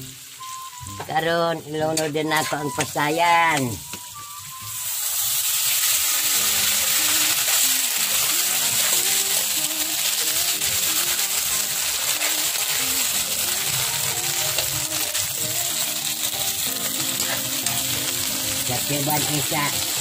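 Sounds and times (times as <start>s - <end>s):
background music: 0.0s - 20.0s
shrimp sizzling in a pan: 0.0s - 20.0s.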